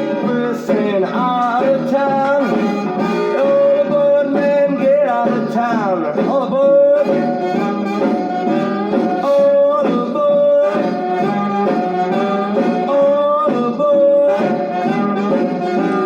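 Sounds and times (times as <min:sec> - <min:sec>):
rock and roll band with horn lead: 0:00.0 - 0:16.0.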